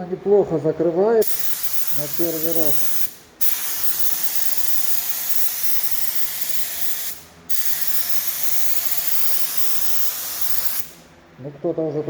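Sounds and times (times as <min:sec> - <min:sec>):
spray gun hissing: 0:01.2 - 0:11.1.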